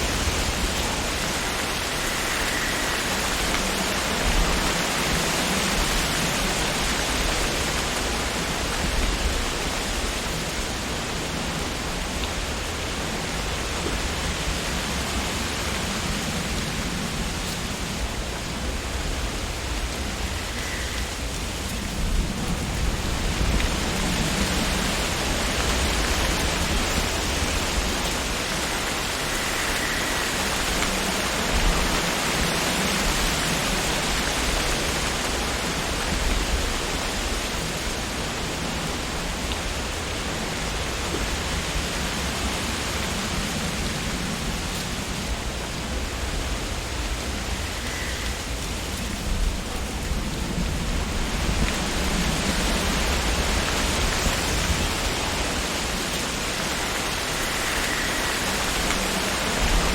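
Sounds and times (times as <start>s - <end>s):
low wind rumble: 0.0s - 59.9s
wind rustling tree leaves: 0.0s - 59.9s.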